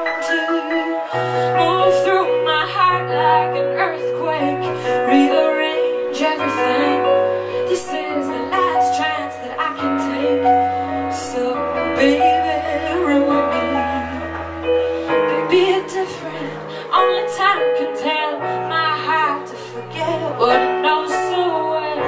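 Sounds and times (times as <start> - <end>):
electric keyboard chords: 0.0 - 22.0
woman singing: 0.0 - 22.0.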